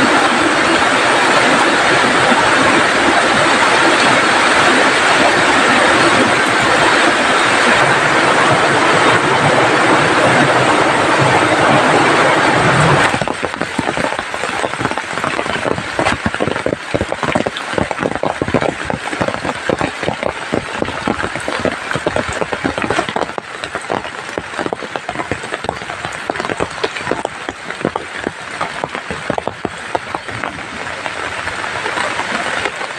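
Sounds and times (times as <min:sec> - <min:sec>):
heavy rain: 0:00.0 - 0:32.9
raindrops striking a surface: 0:00.0 - 0:32.9.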